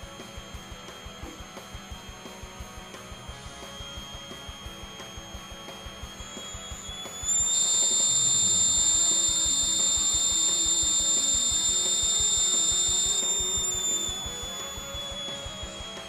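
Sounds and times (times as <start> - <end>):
buzzer high-pitched tone: 0.0 - 16.0.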